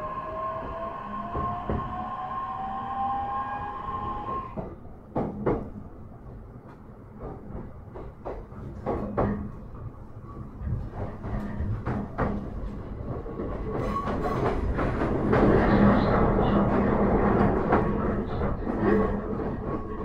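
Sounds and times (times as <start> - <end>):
electric train hum and rumble: 0.0 - 20.0.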